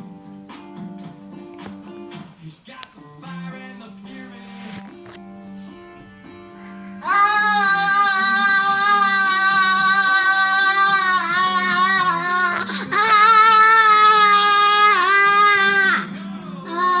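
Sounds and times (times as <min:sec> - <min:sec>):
quiet plucked-string music: 0:00.0 - 0:17.0.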